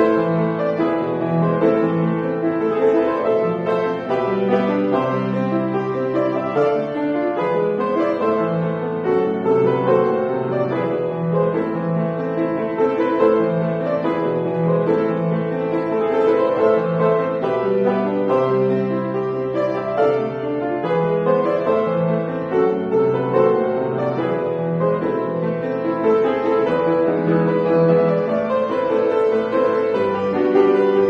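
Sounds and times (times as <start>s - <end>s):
solo piano playing: 0.0s - 31.0s.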